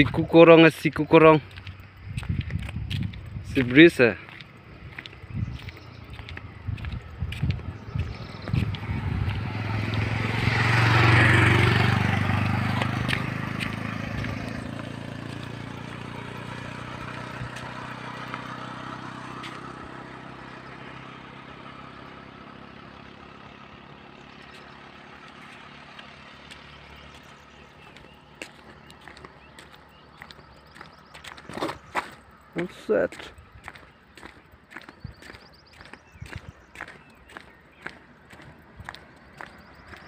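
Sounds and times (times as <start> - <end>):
vehicle passing by: 0.0 - 40.0.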